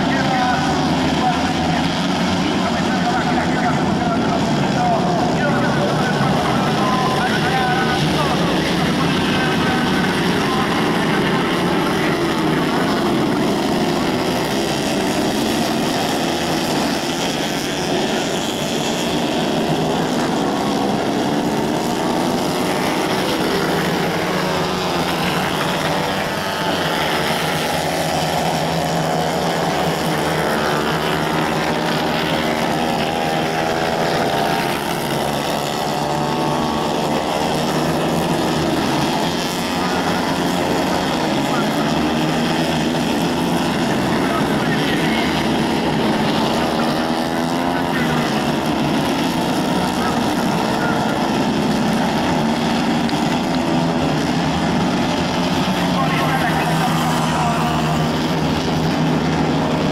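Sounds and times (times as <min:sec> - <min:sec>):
racing kart engines: 0:00.0 - 0:59.9.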